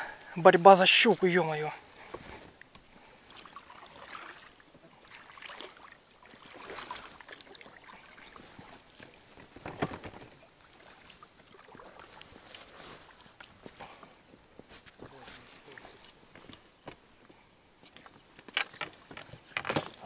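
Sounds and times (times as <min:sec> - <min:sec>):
paddle splashing in water: 0:01.8 - 0:20.0
water dripping from paddle: 0:01.9 - 0:20.0.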